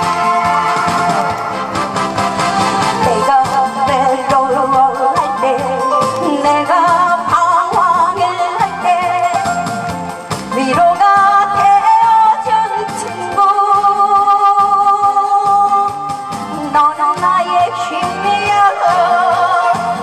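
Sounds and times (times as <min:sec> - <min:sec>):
instrumental accompaniment: 0:00.0 - 0:20.0
woman singing pop song: 0:03.0 - 0:20.0.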